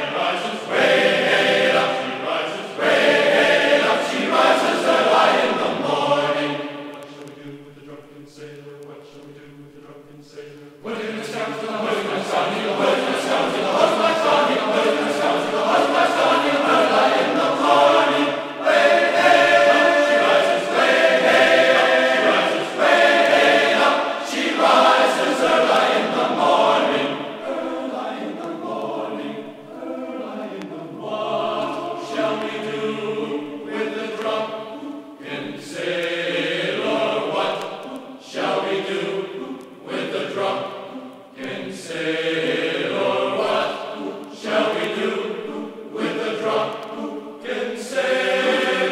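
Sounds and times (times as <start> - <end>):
choir singing held chords: 0.0 - 48.9.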